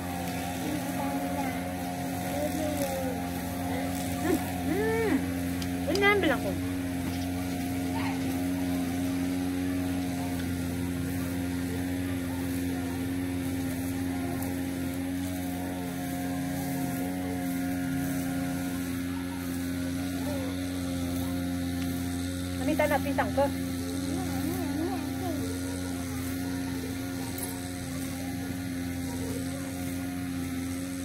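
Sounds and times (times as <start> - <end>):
machine humming: 0.0 - 31.0.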